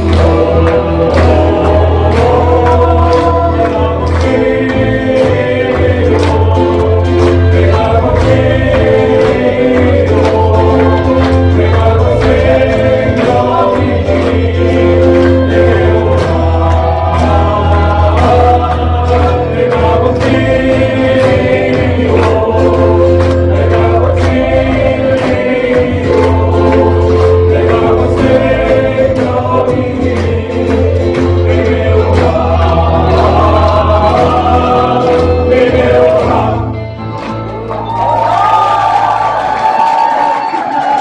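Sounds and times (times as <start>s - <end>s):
men's group singing: 0.0s - 37.1s
bass line: 0.0s - 39.6s
drum beats: 0.0s - 41.0s.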